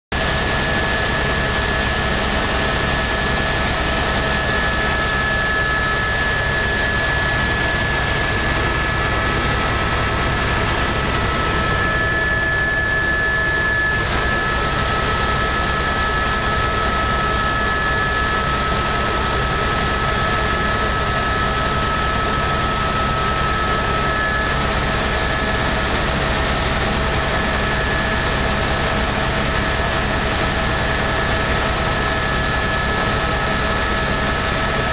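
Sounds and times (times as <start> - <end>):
helicopter rotors and turbine whine: 0.1 - 34.9.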